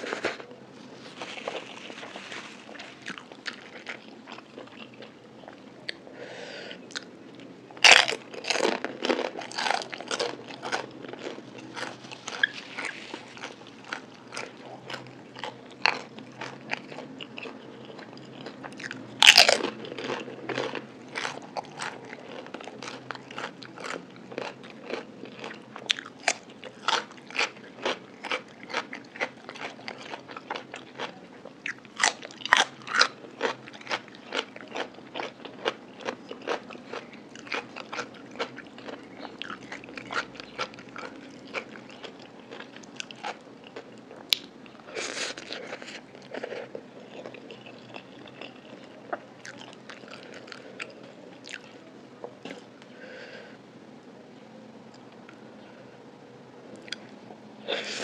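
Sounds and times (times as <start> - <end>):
chewing crispy fried food: 0.0 - 6.2, 6.8 - 53.4, 56.6 - 58.0.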